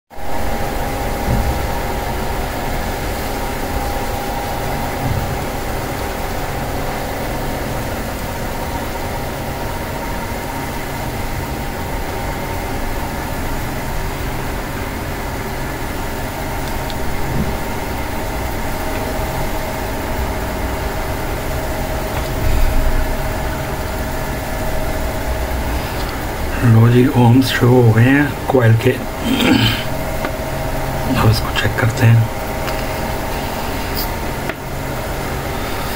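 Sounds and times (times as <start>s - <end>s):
mechanical drone with low rumble: 0.2s - 35.9s.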